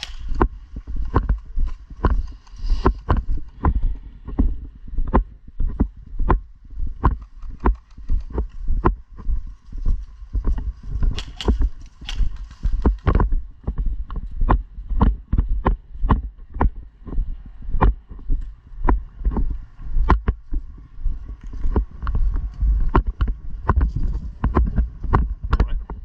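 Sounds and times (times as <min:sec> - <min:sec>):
heavy footsteps: 0:00.0 - 0:25.4.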